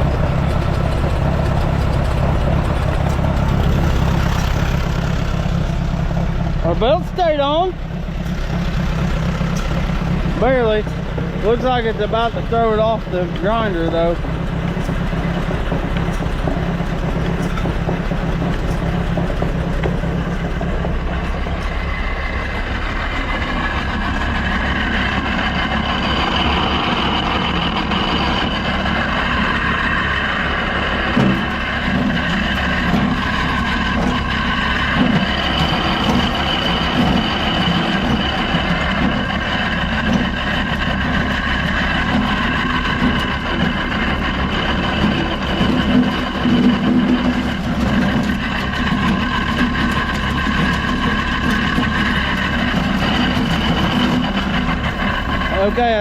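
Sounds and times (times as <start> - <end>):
feed grinder whirring: 0.0 - 56.0
tractor engine running: 0.0 - 56.0.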